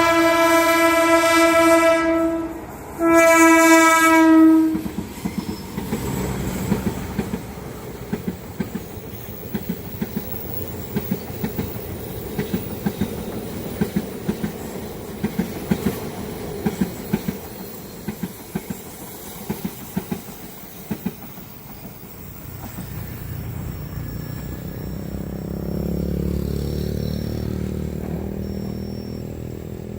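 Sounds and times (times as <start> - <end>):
train rumble: 0.0 - 29.9
train wheels clacking: 4.6 - 29.6.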